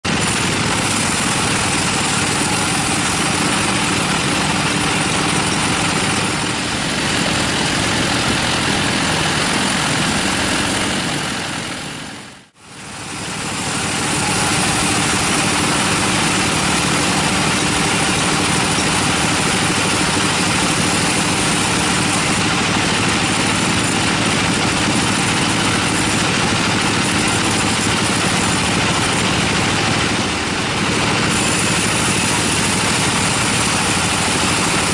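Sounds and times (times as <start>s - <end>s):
band saw cutting log: 0.0s - 34.9s.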